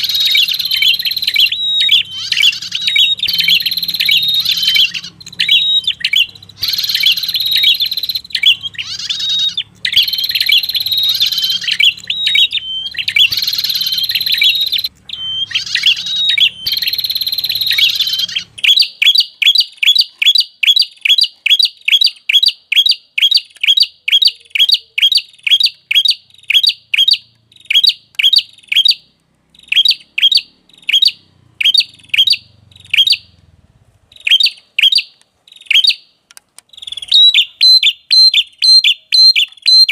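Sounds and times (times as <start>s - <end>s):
buzzy bird song phrases: 0.0s - 33.4s, 34.1s - 39.9s
sharp bird chips: 0.0s - 33.4s, 34.1s - 39.9s.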